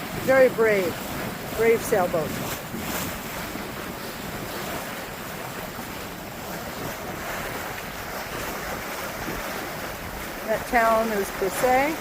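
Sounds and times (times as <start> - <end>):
wind and sea rushing: 0.0 - 12.0
wind buffeting microphone: 0.0 - 12.0.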